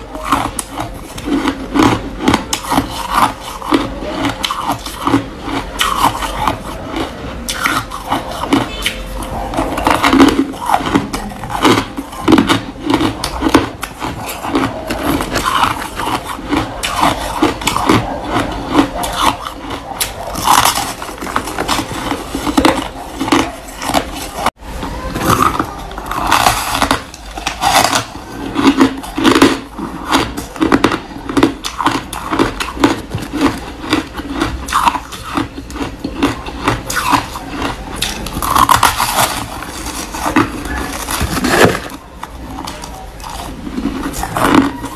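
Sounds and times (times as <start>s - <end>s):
crunching and chewing ice: 0.0s - 44.9s.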